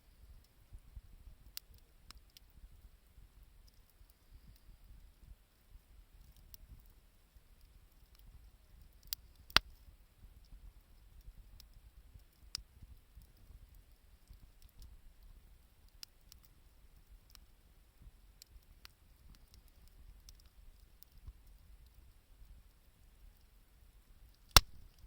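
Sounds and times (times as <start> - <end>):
wood fire crackling: 0.2 - 25.0.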